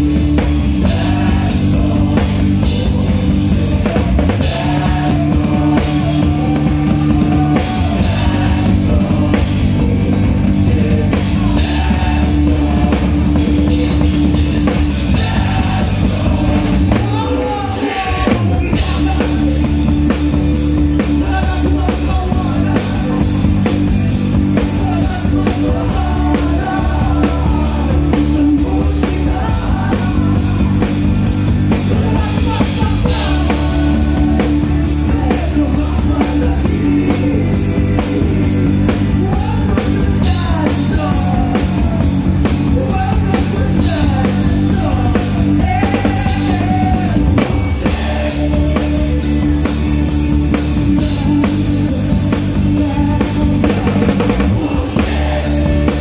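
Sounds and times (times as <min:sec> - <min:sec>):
live rock band playing: 0:00.0 - 0:56.0
person singing: 0:00.7 - 0:56.0.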